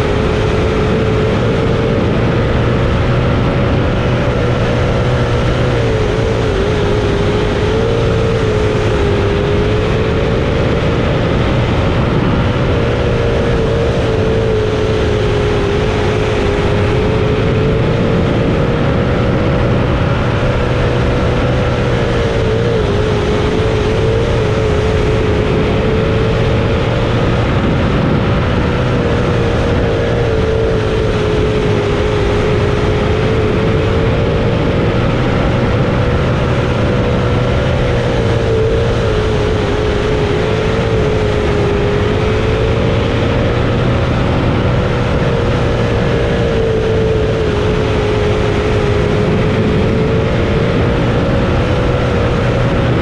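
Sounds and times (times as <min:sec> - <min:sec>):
racing car engine: 0:00.0 - 0:53.0
wind rush: 0:00.0 - 0:53.0.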